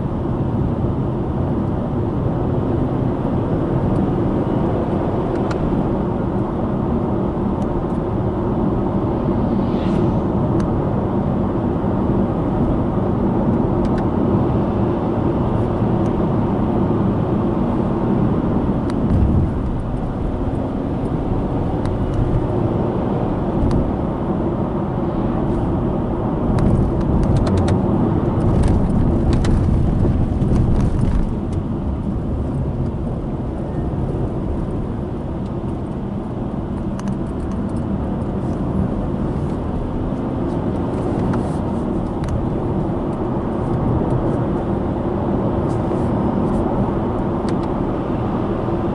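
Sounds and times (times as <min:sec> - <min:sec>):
car engine: 0:00.0 - 0:48.9.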